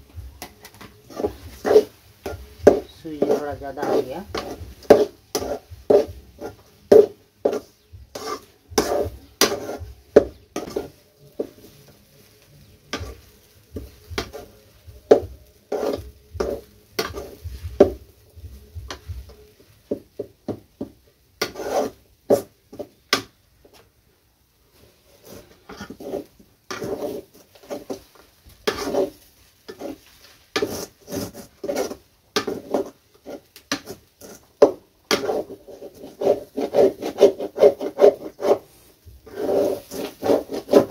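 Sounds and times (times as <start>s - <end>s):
metal spatula scraping a metal pan: 0.6s - 19.5s, 21.4s - 23.2s, 24.8s - 40.9s.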